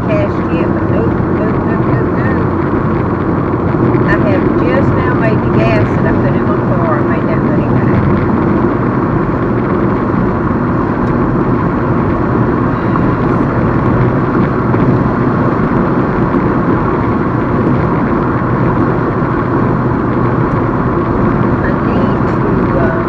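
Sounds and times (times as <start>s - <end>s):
car cabin road noise: 0.0s - 23.0s.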